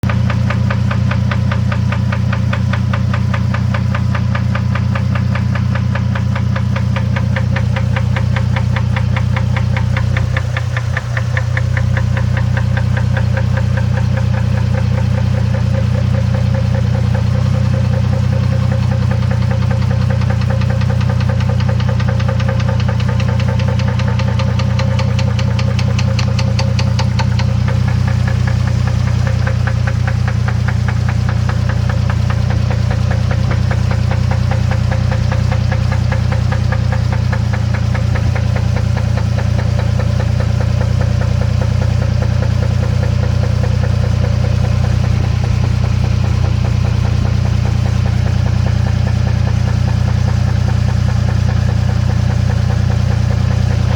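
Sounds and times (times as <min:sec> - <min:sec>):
engine humming: 0:00.0 - 0:53.9.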